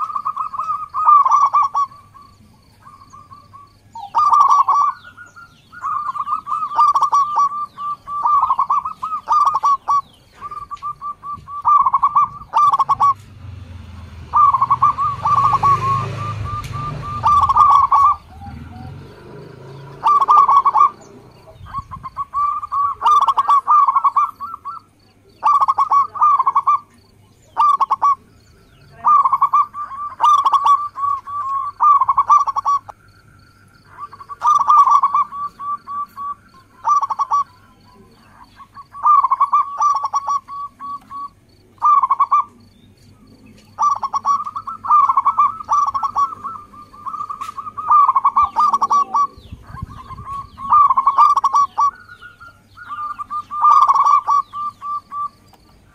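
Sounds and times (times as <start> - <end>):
dove cooing: 0.0 - 55.9.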